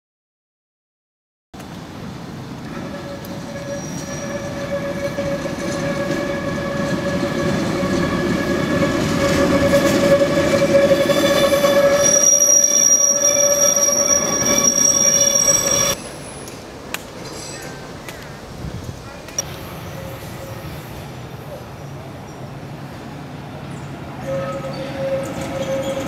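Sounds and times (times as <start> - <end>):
tram rolling rumble: 1.6 - 26.0
tram wheels squealing on rails: 2.3 - 18.0, 19.2 - 22.9, 23.6 - 26.0.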